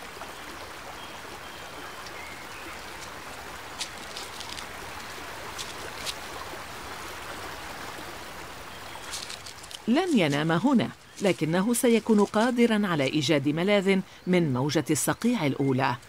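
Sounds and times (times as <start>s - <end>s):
stream flowing over stones: 0.0s - 16.0s.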